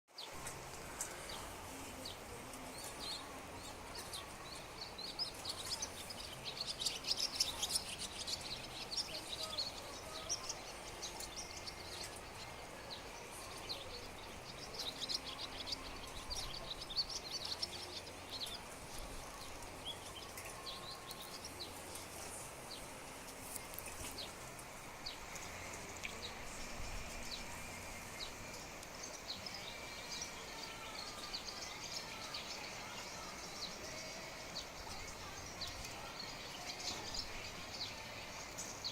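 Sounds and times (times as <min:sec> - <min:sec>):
small birds chirping: 0:00.1 - 0:38.9
steady outdoor hiss: 0:00.1 - 0:38.9.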